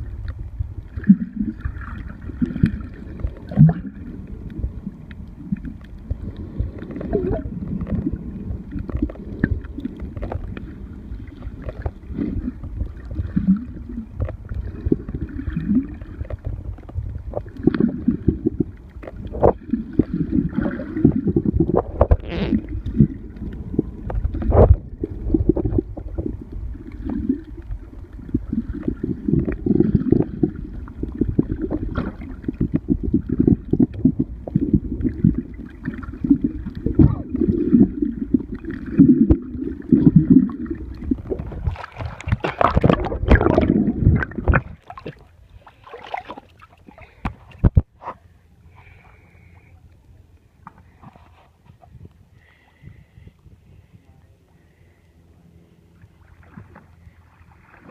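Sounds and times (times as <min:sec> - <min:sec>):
muffled rumbling water: 0:00.0 - 0:57.9.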